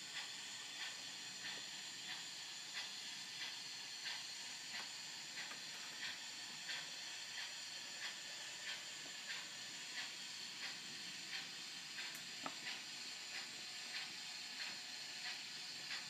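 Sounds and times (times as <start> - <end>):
model steam locomotive chuffs: 0.0 - 16.0.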